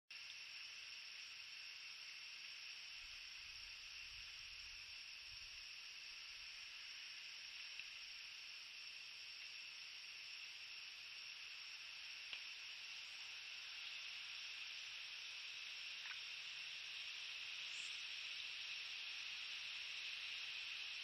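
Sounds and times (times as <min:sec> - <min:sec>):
night insect chorus: 0:00.1 - 0:21.0.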